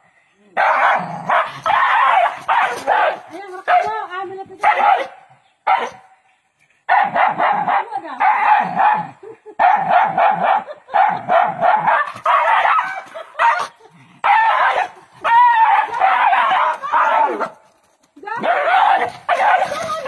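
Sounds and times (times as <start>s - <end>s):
dog barking: 0.6s - 4.0s, 4.6s - 6.1s, 6.9s - 17.5s, 18.4s - 20.0s.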